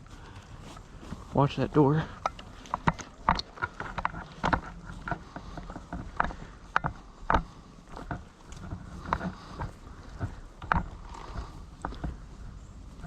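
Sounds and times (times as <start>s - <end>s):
footsteps through brush: 0.0s - 13.0s
gear rattling: 0.2s - 13.0s.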